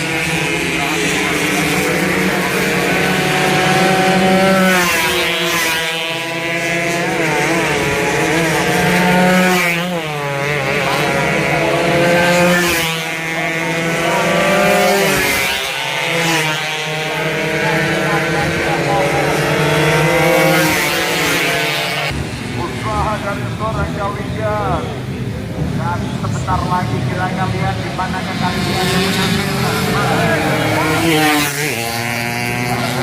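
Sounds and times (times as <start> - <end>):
racing motorcycles passing: 0.0 - 33.0.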